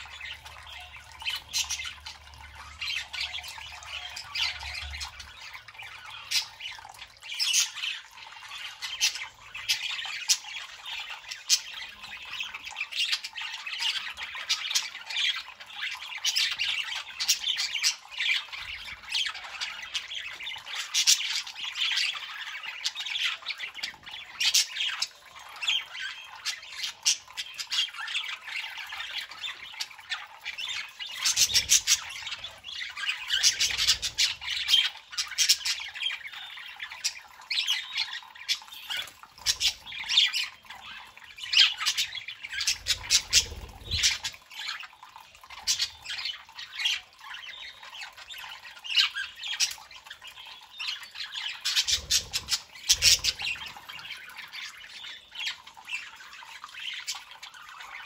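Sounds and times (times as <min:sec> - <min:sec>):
budgerigars chirping: 0:07.4 - 0:58.0.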